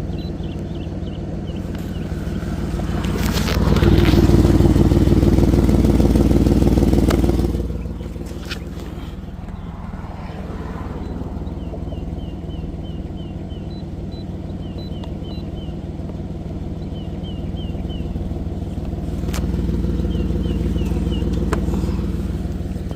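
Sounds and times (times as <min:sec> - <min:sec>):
car engine idling: 0:00.0 - 0:22.9
small birds chirping: 0:00.0 - 0:22.9.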